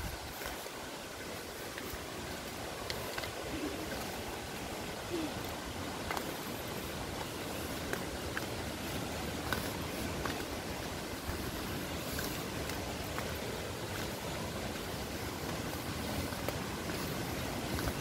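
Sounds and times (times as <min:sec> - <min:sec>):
footsteps on stone path: 0:00.0 - 0:18.0
rushing stream water: 0:00.0 - 0:18.0.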